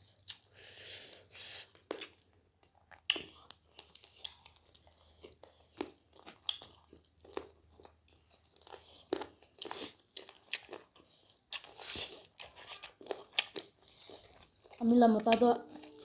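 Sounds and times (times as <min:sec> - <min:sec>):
person chewing crunchy food: 0:00.1 - 0:16.0.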